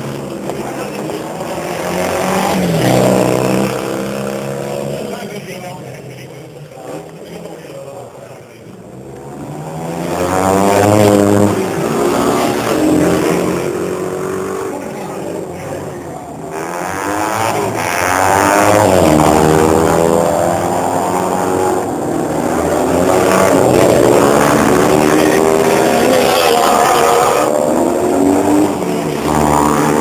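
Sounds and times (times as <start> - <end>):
racing engines at high revs: 0.0 - 30.0.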